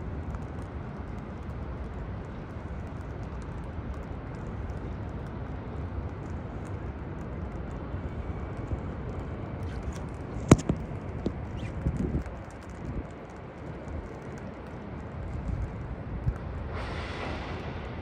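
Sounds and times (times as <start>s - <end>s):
light rain ticks: 0.0s - 16.7s
steady low rumble: 0.0s - 18.0s.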